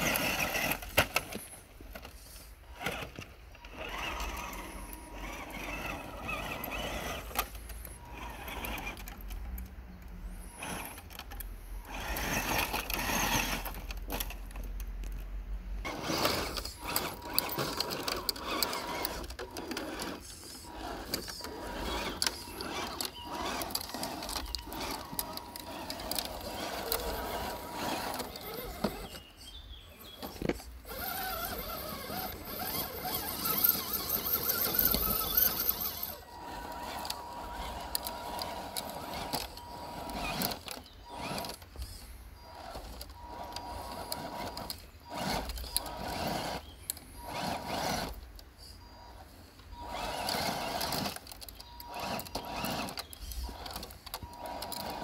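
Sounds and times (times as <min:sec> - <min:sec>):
electric motor and gears whining: 0:00.0 - 0:14.8, 0:15.8 - 0:55.0.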